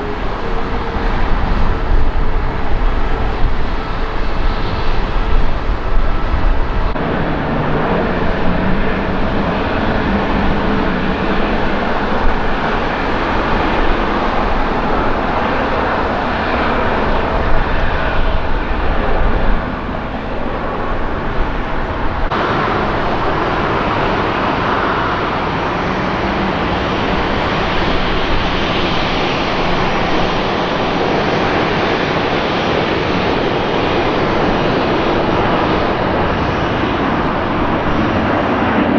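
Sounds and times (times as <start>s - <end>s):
jet airliner engine noise: 0.0s - 38.9s.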